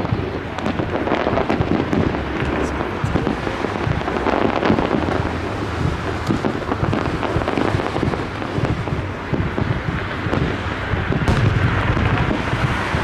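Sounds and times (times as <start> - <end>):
fireworks booming and crackling: 0.0 - 13.0.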